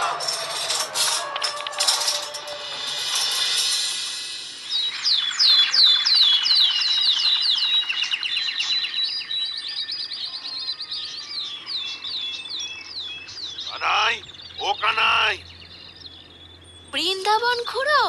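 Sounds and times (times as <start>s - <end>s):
birds chirping: 0.0s - 18.0s
bird trill: 2.0s - 18.0s.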